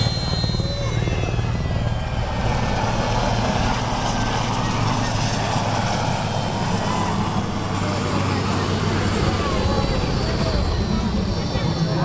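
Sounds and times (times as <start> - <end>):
helicopter engines rumbling: 0.0 - 12.0
helicopter rotor beat: 0.0 - 12.0.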